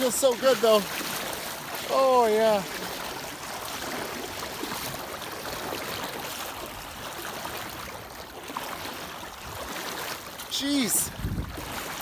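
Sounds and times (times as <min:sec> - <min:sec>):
water sloshing around legs: 0:00.0 - 0:12.0.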